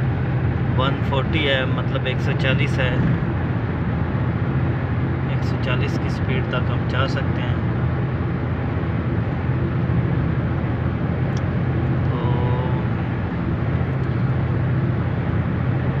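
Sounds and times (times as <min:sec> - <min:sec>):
engine and tyre rumble: 0:00.0 - 0:16.0.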